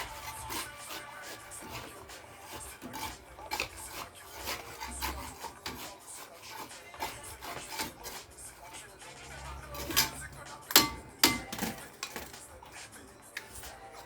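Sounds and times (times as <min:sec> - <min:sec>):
hand tool scraping building material: 0:00.0 - 0:14.0.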